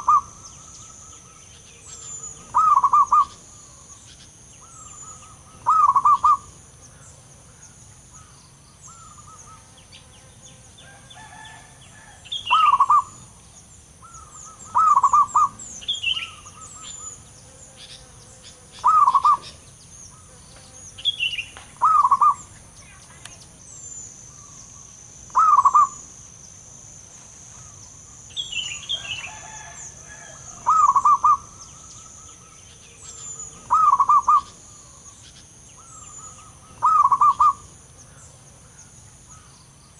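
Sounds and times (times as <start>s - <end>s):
dove trilled cooing: 0.0s - 10.0s, 10.9s - 22.8s, 23.8s - 26.2s, 27.5s - 39.6s
faint bird chirps: 0.0s - 39.9s
high insect hum: 0.0s - 39.9s.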